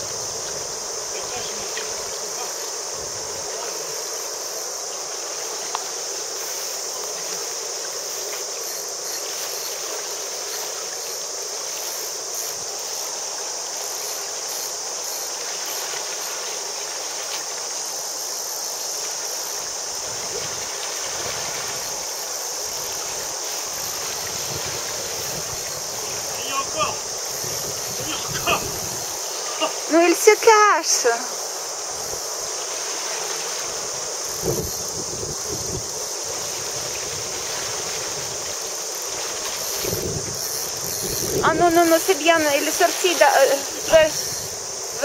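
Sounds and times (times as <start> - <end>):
insects chirping: 0.0 - 45.0
river flowing: 0.0 - 45.0.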